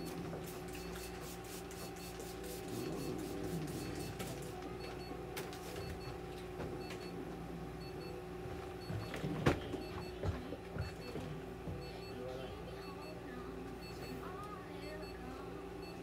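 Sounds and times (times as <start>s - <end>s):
equipment electrical hum: 0.0s - 16.0s.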